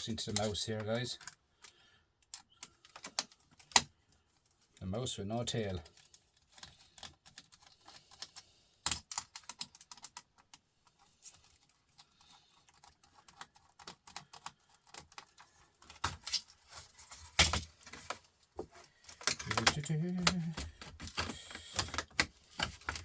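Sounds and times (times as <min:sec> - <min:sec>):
plastic parts clicking: 0:00.2 - 0:04.8, 0:05.7 - 0:23.0.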